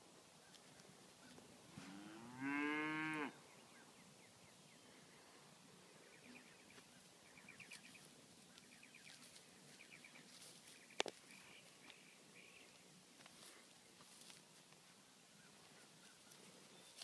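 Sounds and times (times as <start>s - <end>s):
songbird chirping: 0.2s - 17.0s.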